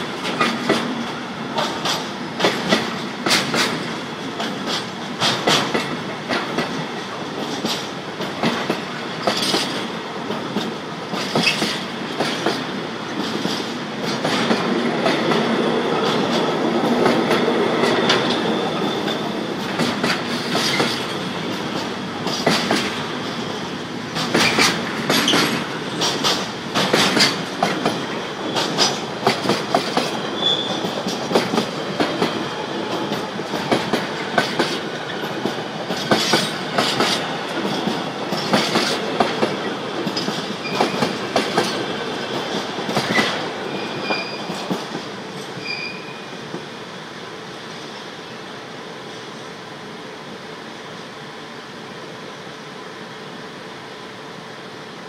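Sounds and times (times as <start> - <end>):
wheels clacking over rail joints: 0.0 - 45.2
steel wheels rumbling on rail: 0.0 - 55.0.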